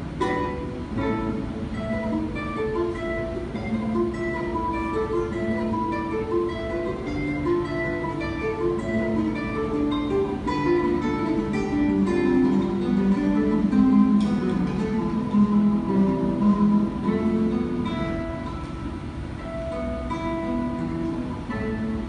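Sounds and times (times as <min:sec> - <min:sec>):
solo classical guitar: 0:00.0 - 0:22.0.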